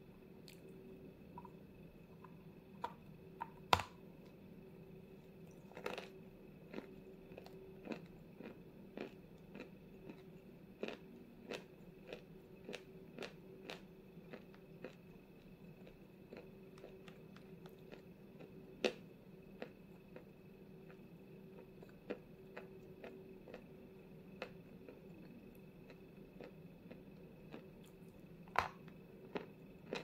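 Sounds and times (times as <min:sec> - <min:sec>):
crunchy chewing of chalk: 0:05.2 - 0:30.0.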